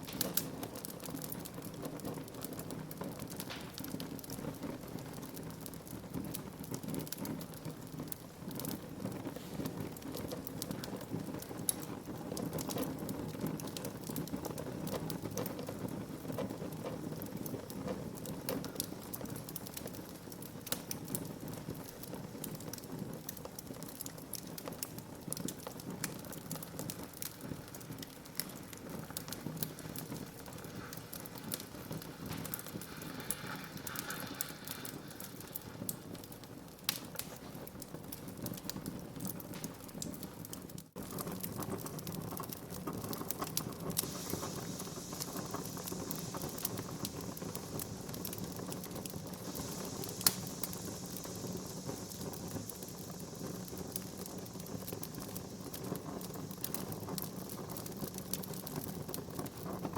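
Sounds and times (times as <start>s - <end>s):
fire crackling and popping: 0.0s - 59.9s
fire hissing and rumbling: 0.0s - 59.9s.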